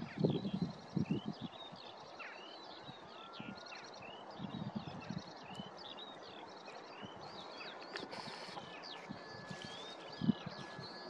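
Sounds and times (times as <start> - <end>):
small birds singing and chirping: 0.0 - 11.0.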